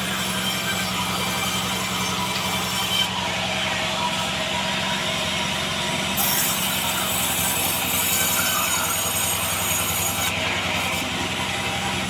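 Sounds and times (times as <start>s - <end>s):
band saw cutting log: 0.0s - 12.0s
machine hum: 0.0s - 12.0s.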